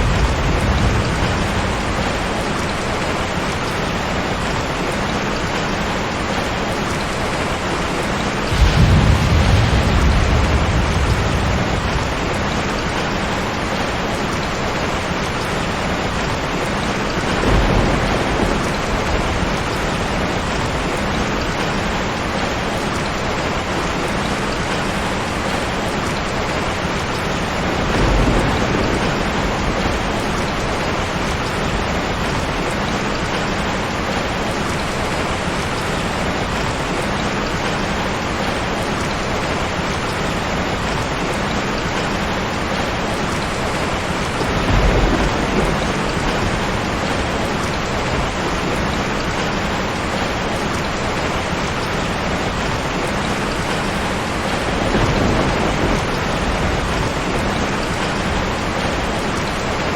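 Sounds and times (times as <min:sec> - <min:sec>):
thunder rumbling: 0:00.0 - 0:25.6, 0:26.5 - 0:36.6, 0:40.8 - 0:59.9
heavy rain: 0:00.0 - 0:59.9.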